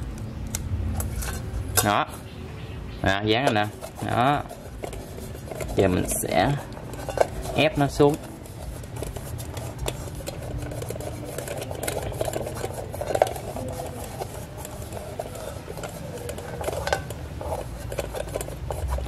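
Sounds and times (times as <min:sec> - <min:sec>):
fingers rubbing foil on metal: 0:03.2 - 0:19.0.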